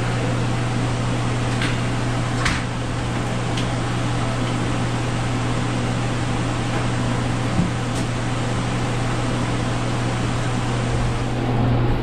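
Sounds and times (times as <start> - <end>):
fan hum with rushing air: 0.0 - 12.0.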